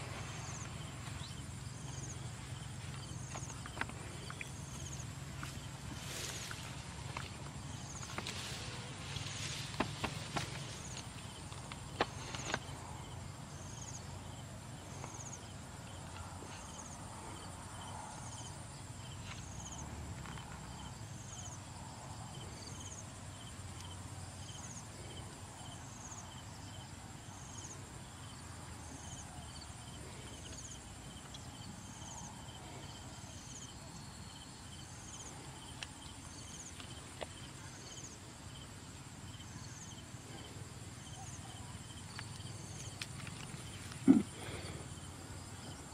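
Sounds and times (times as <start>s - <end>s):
insect chirping: 0.0s - 45.9s
insects buzzing: 0.0s - 45.9s.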